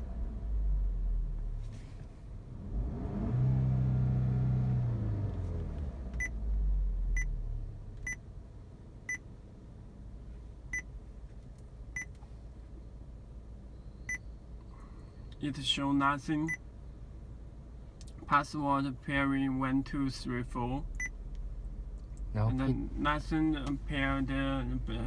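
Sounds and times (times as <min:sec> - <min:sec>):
low car rumble with hum: 0:00.0 - 0:25.0.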